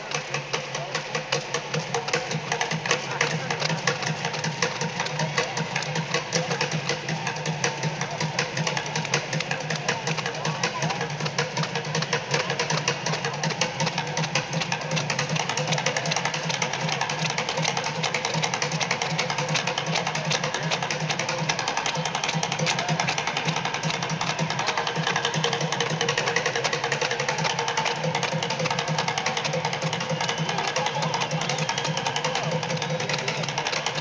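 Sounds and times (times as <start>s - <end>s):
fast drum roll: 0.0s - 34.0s.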